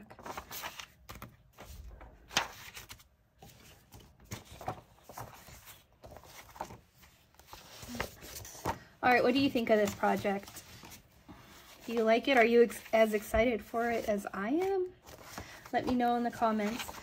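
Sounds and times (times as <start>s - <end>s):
paper rustling and crackling: 0.0s - 17.0s.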